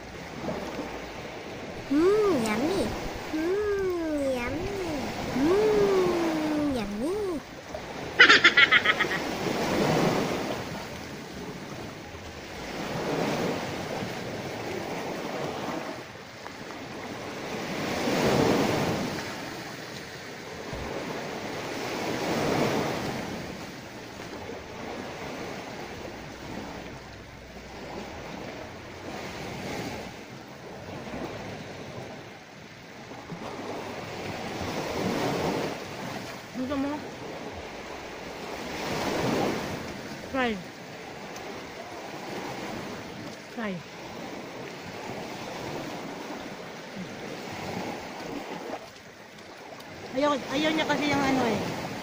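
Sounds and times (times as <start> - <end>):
sea waves washing in: 0.0 - 52.0.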